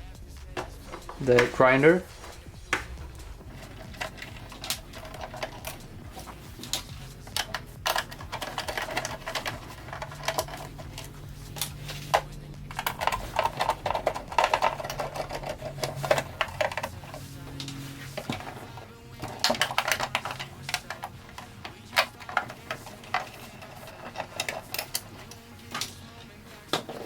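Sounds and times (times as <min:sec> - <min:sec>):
whirring: 0:00.0 - 0:27.0
screwdriver clicking: 0:02.2 - 0:27.0.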